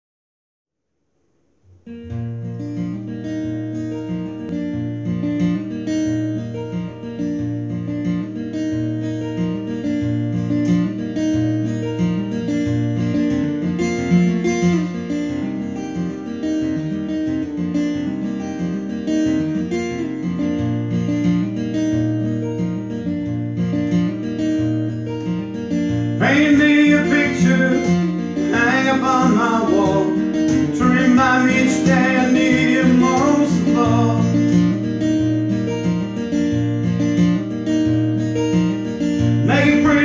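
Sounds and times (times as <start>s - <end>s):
acoustic guitars strumming chords: 1.1s - 40.0s.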